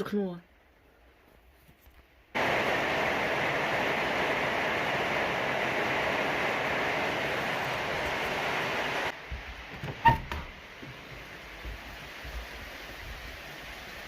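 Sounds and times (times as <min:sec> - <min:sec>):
heavy rain pouring: 0:02.4 - 0:14.0.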